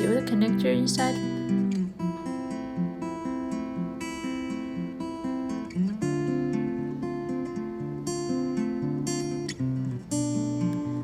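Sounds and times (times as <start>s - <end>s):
acoustic guitar plucked and strummed: 0.0s - 11.0s.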